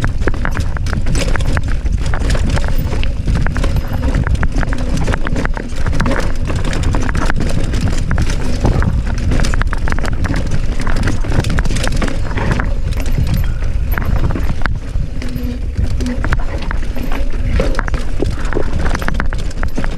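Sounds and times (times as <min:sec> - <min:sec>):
bike rattling over rocks: 0:00.0 - 0:19.9
low rumble: 0:00.0 - 0:19.9.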